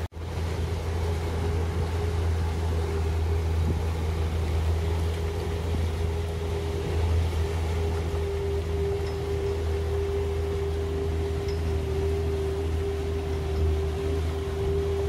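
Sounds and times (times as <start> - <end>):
boat engine drone: 0.0 - 15.0
rush of water: 0.0 - 15.0.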